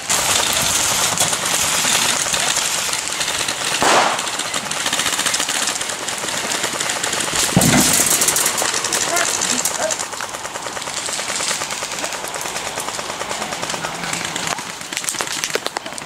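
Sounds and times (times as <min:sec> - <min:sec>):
airsoft guns firing full auto: 0:00.0 - 0:16.0.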